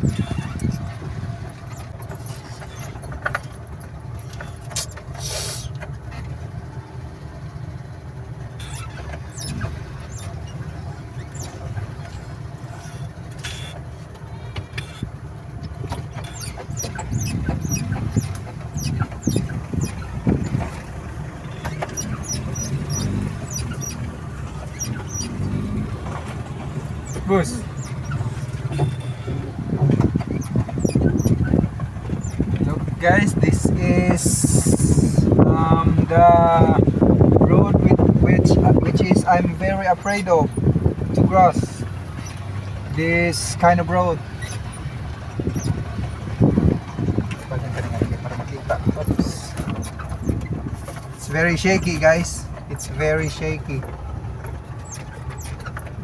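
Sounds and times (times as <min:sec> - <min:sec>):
light clicks and rattles: 0:00.0 - 0:56.0
truck engine and road rumble: 0:00.0 - 0:56.0.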